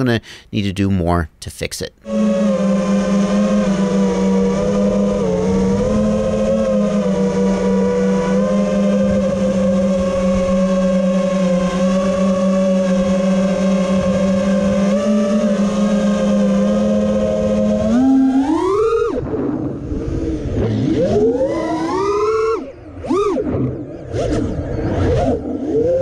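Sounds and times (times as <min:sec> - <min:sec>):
quadcopter motors whining: 0:02.0 - 0:26.0.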